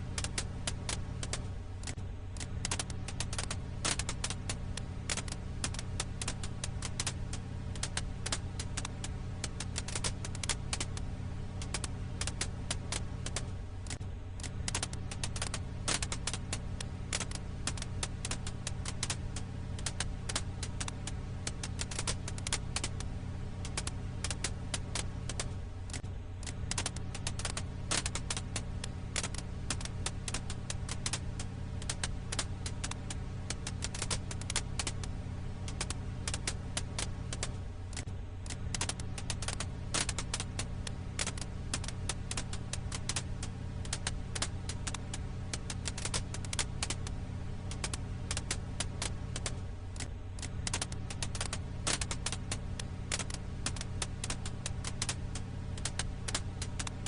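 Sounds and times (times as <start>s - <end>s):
campfire crackling: 0.0s - 57.0s
low fire rumble: 0.0s - 57.0s.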